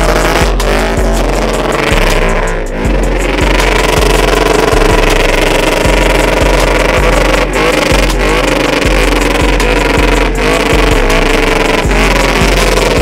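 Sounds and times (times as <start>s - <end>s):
music with heavy bass: 0.0s - 13.0s
truck engine revving: 0.0s - 13.0s.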